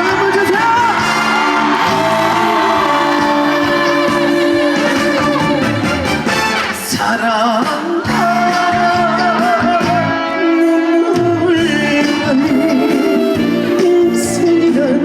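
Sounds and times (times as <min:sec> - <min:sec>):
live band playing trot music: 0:00.0 - 0:15.0.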